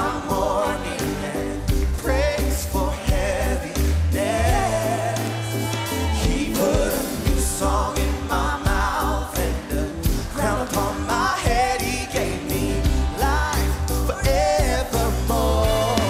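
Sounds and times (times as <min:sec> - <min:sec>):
singer's wavering vocal: 0:00.0 - 0:16.0
worship band playing: 0:00.0 - 0:16.0.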